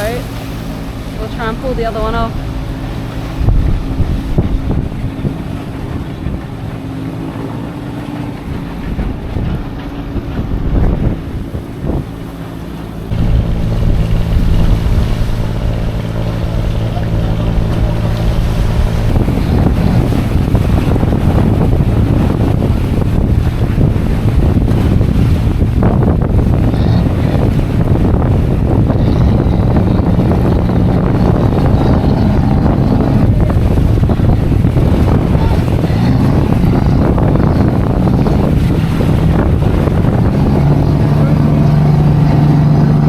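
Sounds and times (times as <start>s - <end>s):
boat engine humming: 0.0s - 43.0s
wind rushing on microphone: 0.0s - 43.0s.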